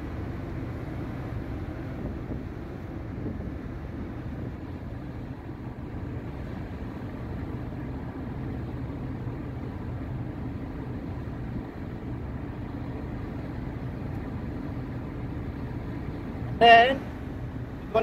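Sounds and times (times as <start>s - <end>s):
ship machinery humming: 0.0s - 18.0s.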